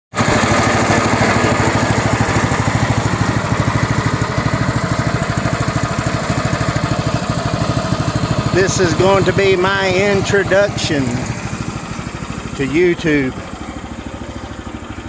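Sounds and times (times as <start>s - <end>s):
small gasoline engine idling: 0.1s - 15.0s.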